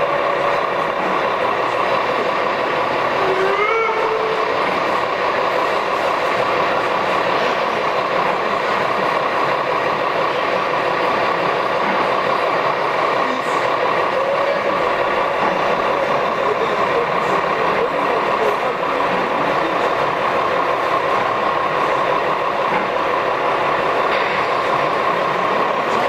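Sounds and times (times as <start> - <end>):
model steam locomotive running: 0.0 - 26.0.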